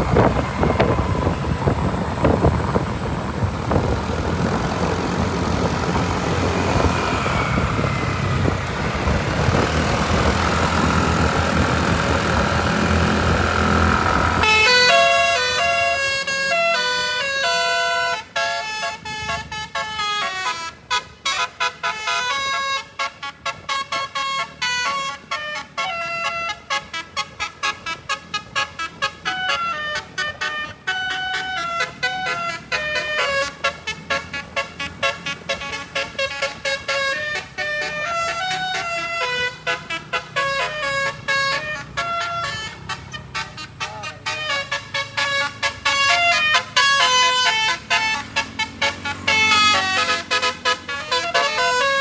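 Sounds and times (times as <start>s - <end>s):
heavy vehicles passing: 0.0s - 52.0s
horn-like melodic tune: 0.0s - 52.0s.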